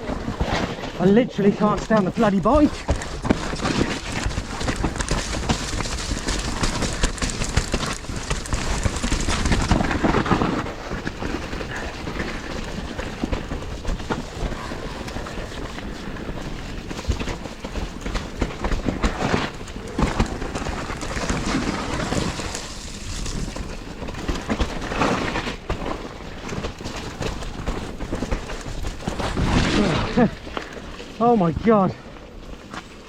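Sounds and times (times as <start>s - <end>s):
bike rattling over ground: 0.0s - 33.0s.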